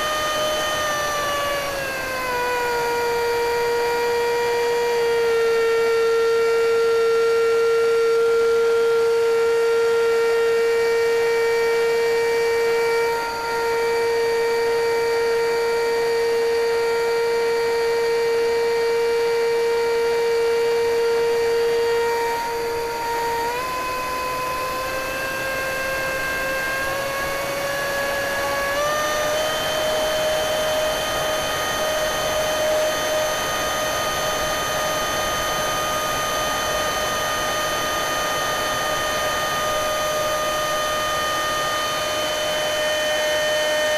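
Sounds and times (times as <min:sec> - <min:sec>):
electric ducted fan whining: 0:00.0 - 0:43.9.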